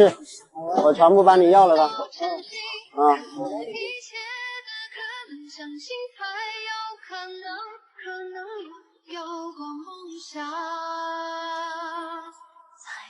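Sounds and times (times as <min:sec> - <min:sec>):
high voice singing slow melody: 0:01.6 - 0:13.0.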